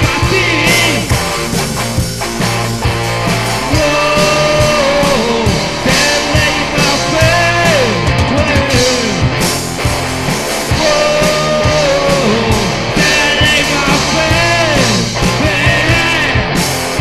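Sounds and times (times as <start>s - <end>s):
punk rock band playing: 0.0s - 17.0s.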